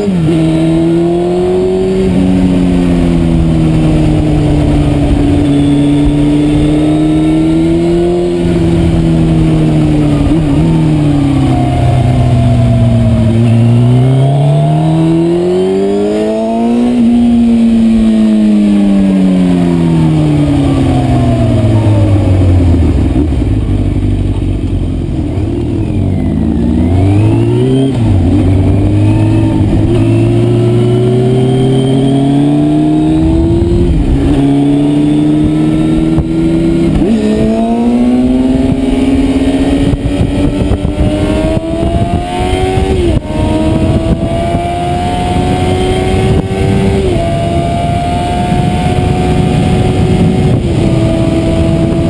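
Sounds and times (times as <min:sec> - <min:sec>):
motorcycle engine accelerating: 0:00.0 - 0:52.0
wind noise on microphone: 0:00.0 - 0:52.0.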